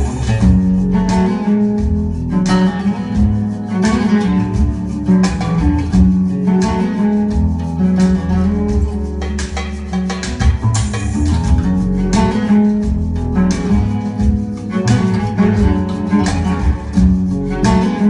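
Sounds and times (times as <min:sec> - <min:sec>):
deep bass notes: 0:00.0 - 0:03.7, 0:04.3 - 0:06.6, 0:07.3 - 0:18.0
acoustic guitar music: 0:00.0 - 0:18.0.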